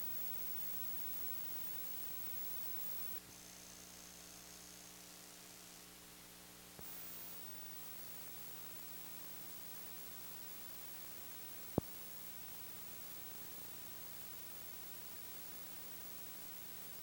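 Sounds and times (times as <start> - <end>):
mains hum and hiss: 0.0 - 17.0.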